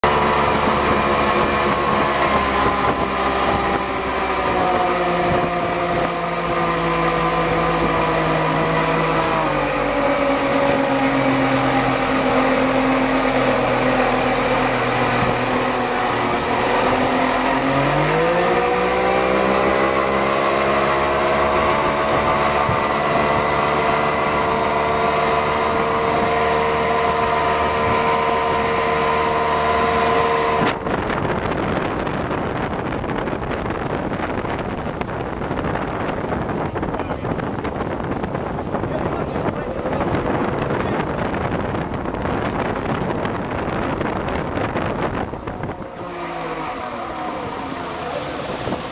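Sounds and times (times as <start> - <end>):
outboard motor running: 0.0 - 48.9
rush of boat wake: 0.0 - 48.9.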